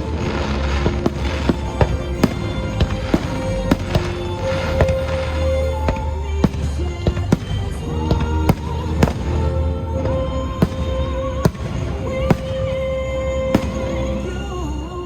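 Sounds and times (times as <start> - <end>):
fireworks bangs: 0.0 - 14.8
music over loudspeakers: 0.0 - 15.0.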